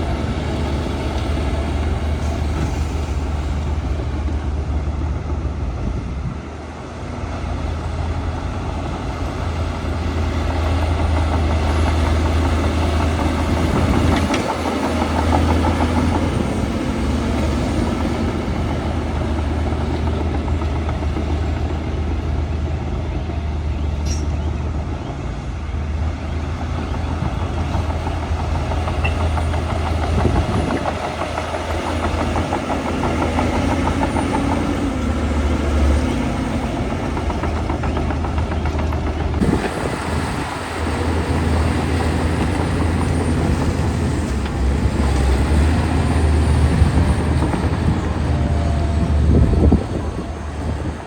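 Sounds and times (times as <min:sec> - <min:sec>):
bulldozer engine running: 0:00.0 - 0:51.0.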